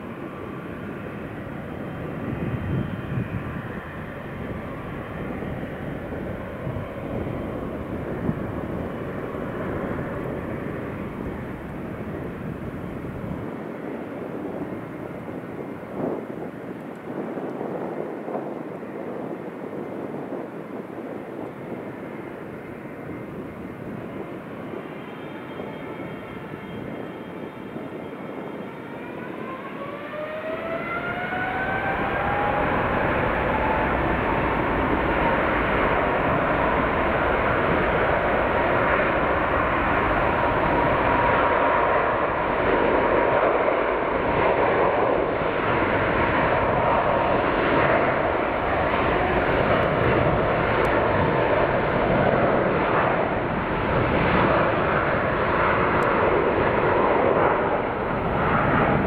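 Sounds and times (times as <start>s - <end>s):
jet engine whine rising: 0.0s - 59.0s
jet roar: 0.0s - 59.0s.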